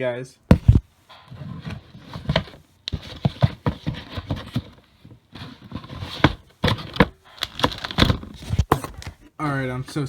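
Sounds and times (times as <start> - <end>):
packaging rustling: 0.6 - 9.2.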